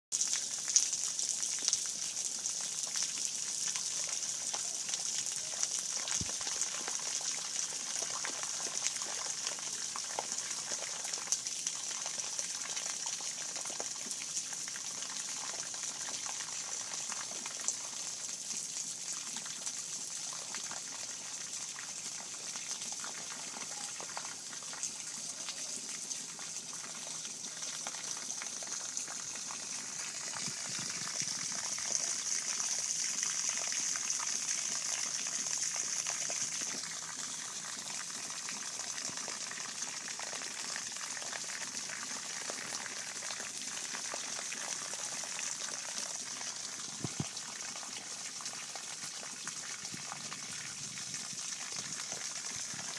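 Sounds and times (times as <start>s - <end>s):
steady rain falling: 0.2s - 52.9s.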